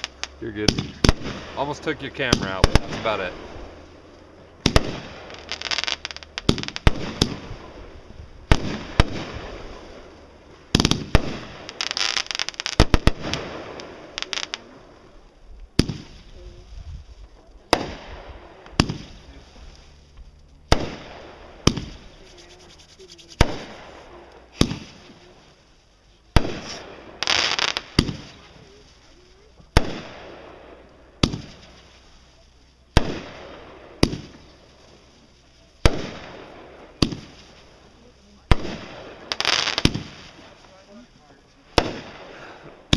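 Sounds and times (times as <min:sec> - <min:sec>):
fireworks bangs: 0:00.0 - 0:25.6, 0:26.2 - 0:42.9
fireworks crackling bursts: 0:00.0 - 0:42.9.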